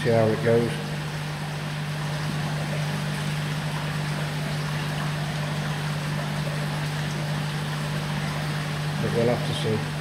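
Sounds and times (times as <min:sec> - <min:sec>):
tank pump hum: 0:00.0 - 0:10.0.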